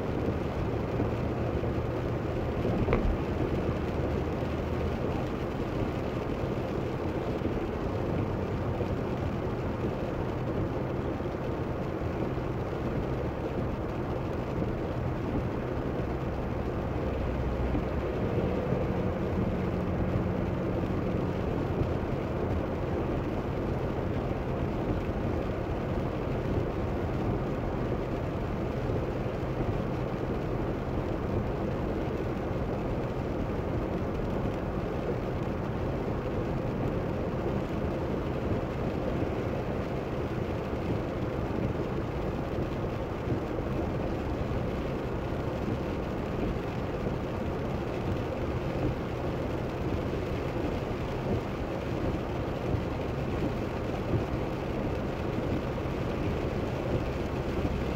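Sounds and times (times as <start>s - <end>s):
car engine rumble: 0.0s - 57.9s
tyres on wet pavement: 0.0s - 57.9s.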